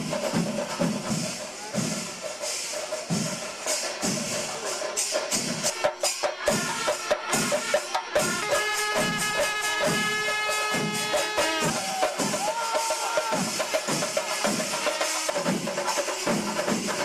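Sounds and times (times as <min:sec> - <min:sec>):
cymbals: 0:00.0 - 0:17.0
held wind instrument notes: 0:01.1 - 0:16.7.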